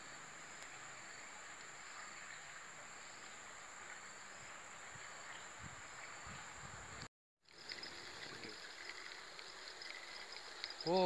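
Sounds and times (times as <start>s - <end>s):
faint insects trilling: 0.0s - 6.7s, 7.5s - 11.0s
outdoor hiss: 0.0s - 11.0s.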